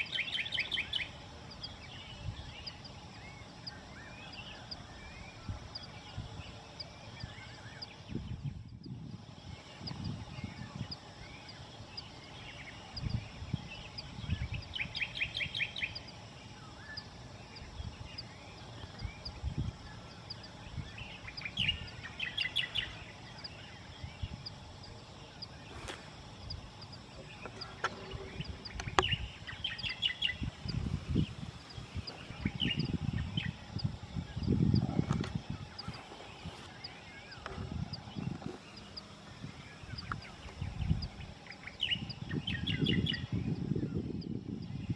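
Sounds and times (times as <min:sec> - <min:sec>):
birds singing trills: 0:00.0 - 0:44.9
wind rumbling on microphone: 0:00.0 - 0:44.9.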